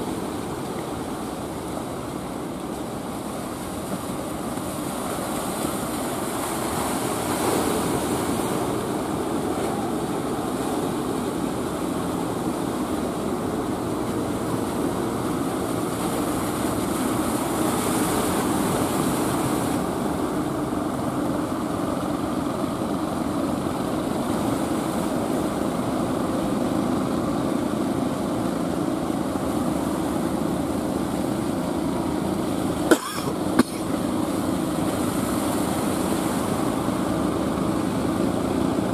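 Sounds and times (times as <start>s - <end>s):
boat diesel engine rumbling: 0.0s - 38.9s
waves washing: 0.0s - 38.9s.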